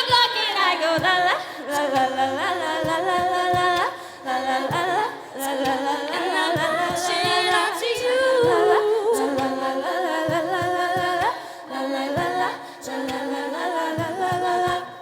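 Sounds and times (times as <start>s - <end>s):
a cappella group singing: 0.0s - 15.0s
vocal percussion thumps: 0.0s - 15.0s.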